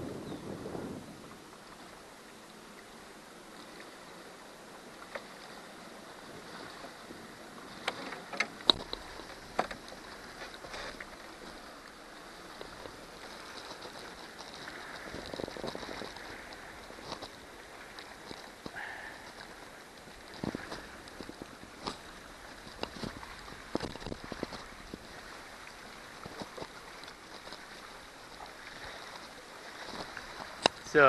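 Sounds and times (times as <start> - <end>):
knocks and clicks in a canoe: 4.8 - 31.0.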